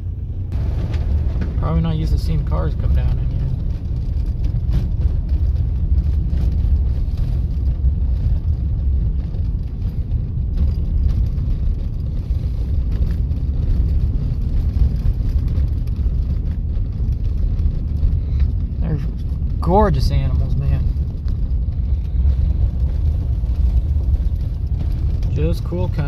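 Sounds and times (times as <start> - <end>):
vehicle engine rumble: 0.0 - 26.0.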